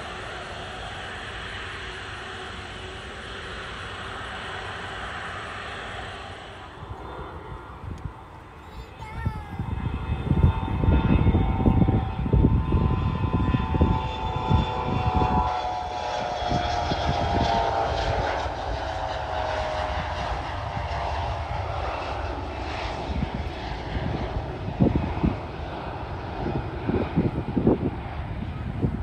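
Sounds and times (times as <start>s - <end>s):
jet engines whining at takeoff: 0.0s - 29.0s
wind rumbling on microphone: 3.7s - 29.0s.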